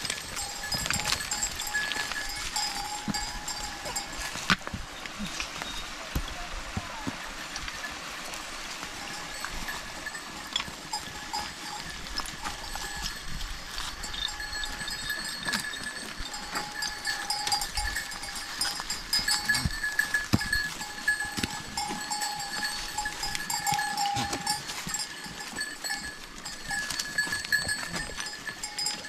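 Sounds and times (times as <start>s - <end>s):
goat bells ringing: 0.0s - 29.0s
hooves clicking on stones: 0.0s - 29.0s.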